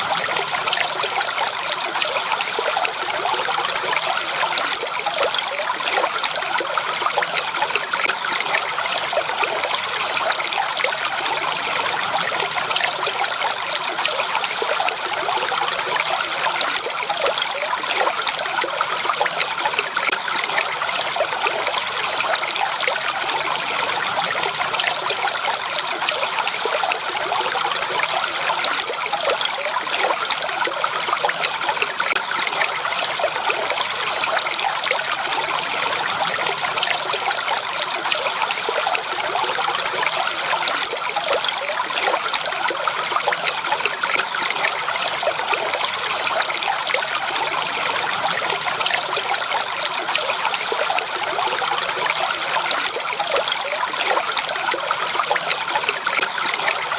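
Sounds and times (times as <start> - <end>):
stream water babbling: 0.0 - 56.9.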